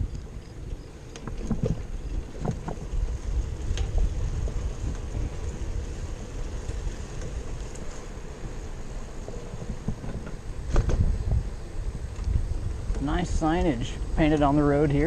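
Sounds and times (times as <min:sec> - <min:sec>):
bicycle tyres rumbling on pavement: 0:00.0 - 0:15.0
bike clicks: 0:00.0 - 0:15.0
wind rushing over microphone: 0:00.0 - 0:15.0.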